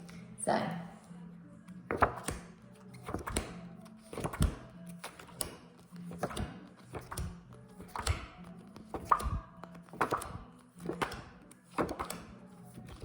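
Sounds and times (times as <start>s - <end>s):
paper cards tapping and thunking: 1.7s - 13.0s.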